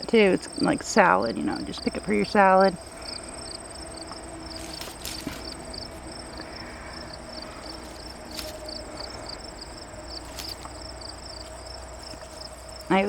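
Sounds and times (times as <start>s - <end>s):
insect chirping: 0.0s - 13.0s
insect trill: 0.0s - 13.0s.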